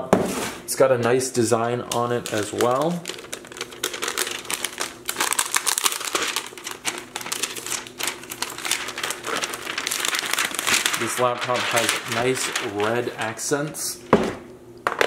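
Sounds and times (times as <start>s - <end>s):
plastic wrap crinkling: 1.8s - 14.0s.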